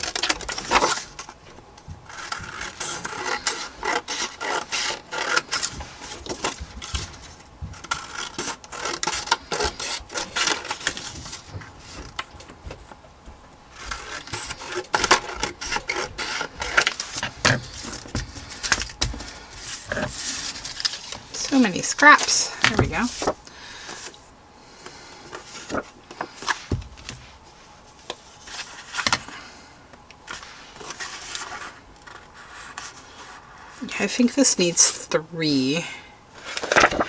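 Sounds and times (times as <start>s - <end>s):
paper rustling and scraping: 0.0s - 13.0s, 13.7s - 34.0s, 36.4s - 37.0s.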